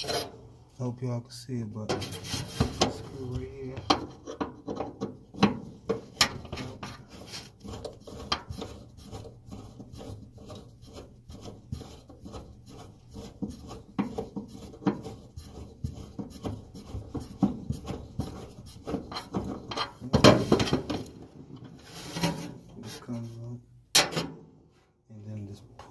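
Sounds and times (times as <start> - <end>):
scraping and clicking of hand work: 1.8 - 23.2.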